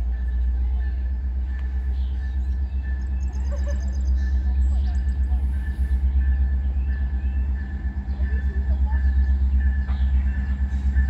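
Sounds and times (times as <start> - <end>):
low rumble: 0.0 - 11.0
songbirds chirping: 0.0 - 11.0.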